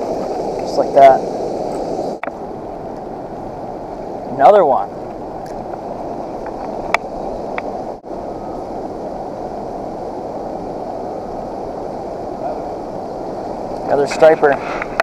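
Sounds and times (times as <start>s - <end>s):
river water rushing around boat: 0.0s - 15.0s.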